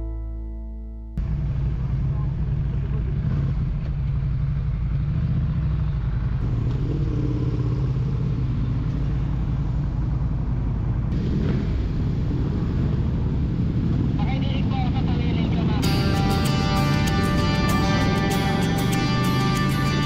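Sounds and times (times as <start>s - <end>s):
motorcycle engine running: 1.2s - 20.0s
road and wind noise: 1.2s - 20.0s.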